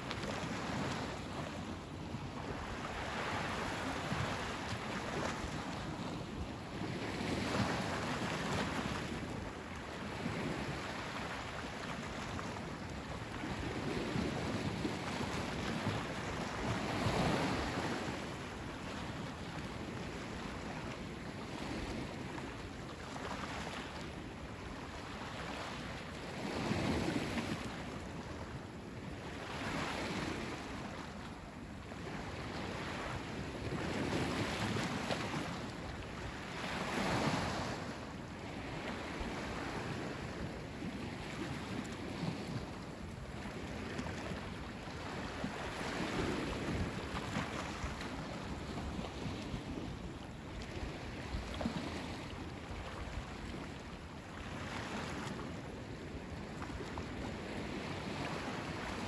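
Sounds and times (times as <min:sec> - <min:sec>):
waves breaking on the shore: 0:00.0 - 0:59.0.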